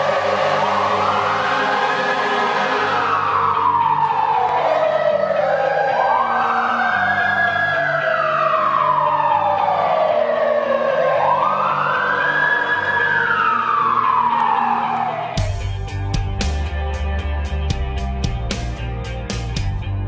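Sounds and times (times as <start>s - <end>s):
fire engine siren wailing: 0.0s - 16.1s.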